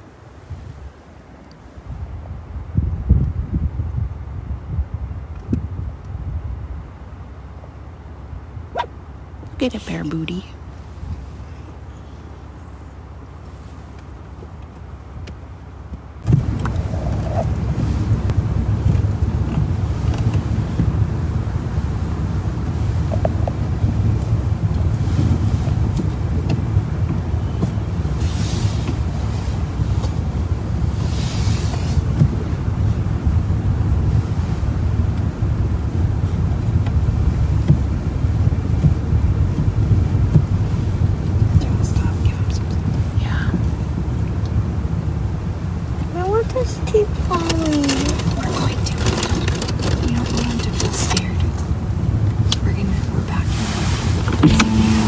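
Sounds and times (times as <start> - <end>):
wind buffeting microphone: 0.0 - 7.3, 10.6 - 55.0
car engine rumble: 0.0 - 55.0.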